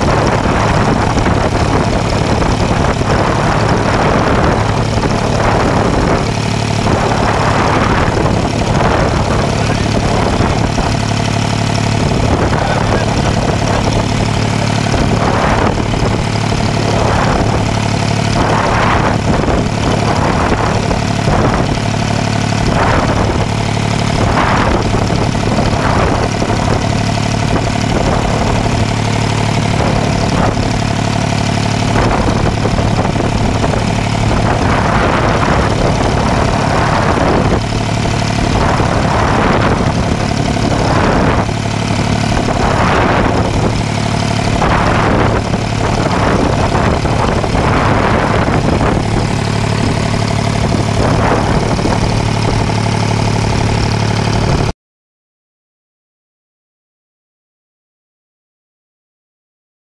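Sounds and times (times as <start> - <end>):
boat engine humming: 0.0 - 54.7
water splashing against hull: 0.0 - 54.7.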